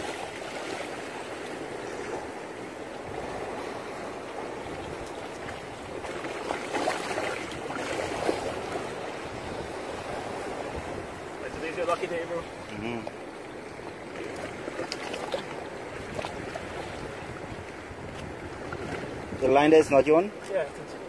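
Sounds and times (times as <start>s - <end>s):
sea water washing over rocks: 0.0s - 21.0s.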